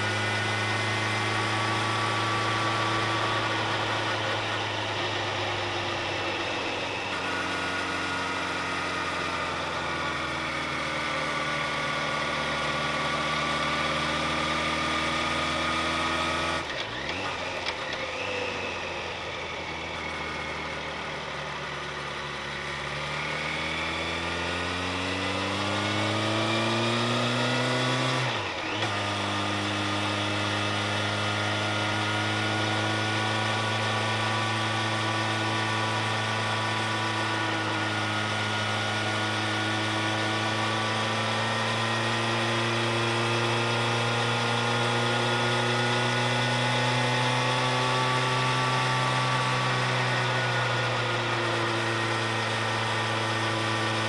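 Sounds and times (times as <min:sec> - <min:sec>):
road and wind noise: 0:00.0 - 0:54.0
vehicle engine climbing: 0:00.0 - 0:54.0.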